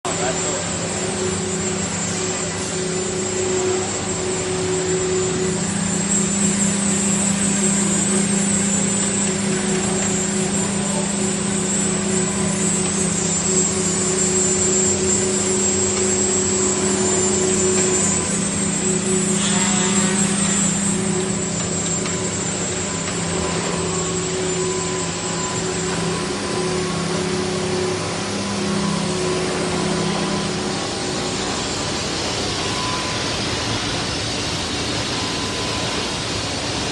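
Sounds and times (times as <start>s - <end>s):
machine humming with high whine: 0.0s - 36.9s.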